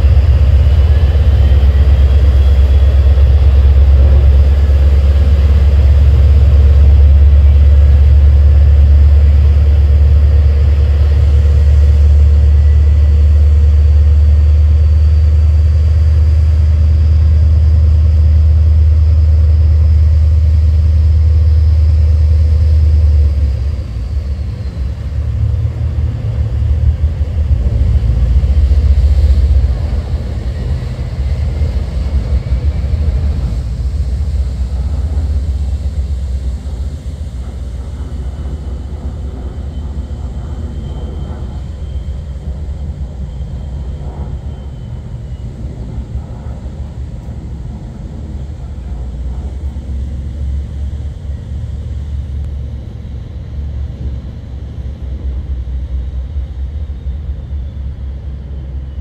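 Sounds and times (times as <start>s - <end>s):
churning propeller wash: 0.0s - 58.8s
ferry engines rumbling: 0.0s - 59.0s.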